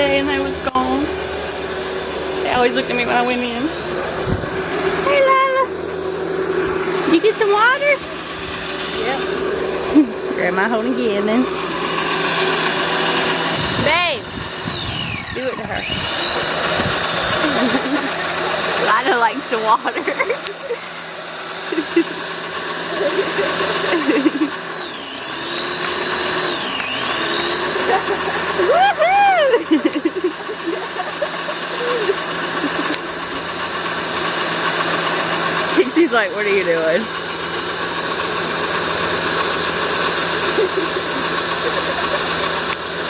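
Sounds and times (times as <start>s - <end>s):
pressure washer spraying water: 0.0s - 43.0s.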